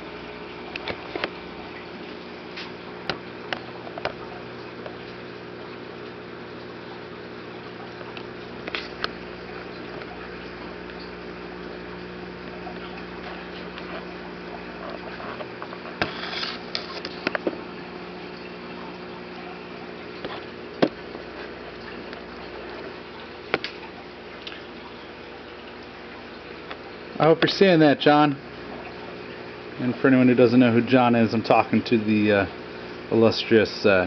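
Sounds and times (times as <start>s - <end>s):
aquarium pump humming: 0.0s - 34.0s
circulating water: 0.0s - 34.0s.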